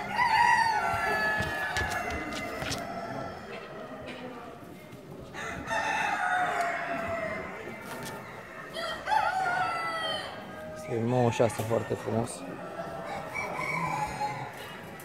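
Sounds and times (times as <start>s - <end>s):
roosters crowing: 0.0s - 4.1s, 5.2s - 15.0s
hubbub of voices: 0.0s - 15.0s.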